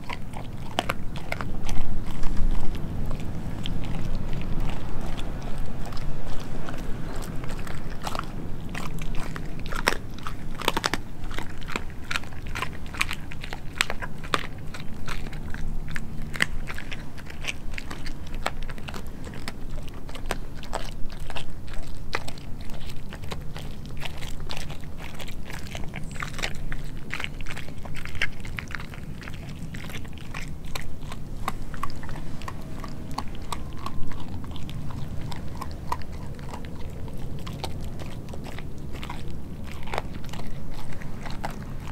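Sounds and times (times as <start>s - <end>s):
dog chewing raw meat: 0.0s - 41.9s.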